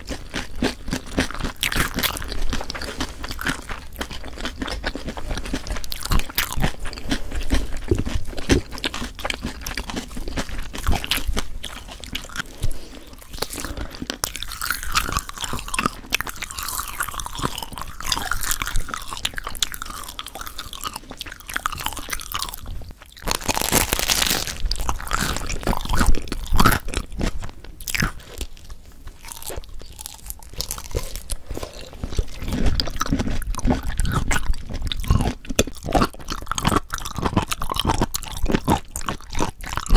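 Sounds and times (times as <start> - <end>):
crunching and crackling clicks: 0.0 - 39.9.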